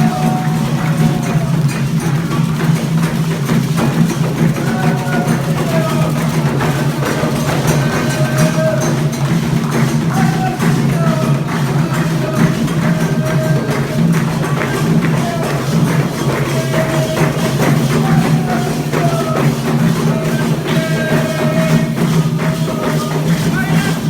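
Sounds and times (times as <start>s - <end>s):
percussion: 0.0s - 24.0s.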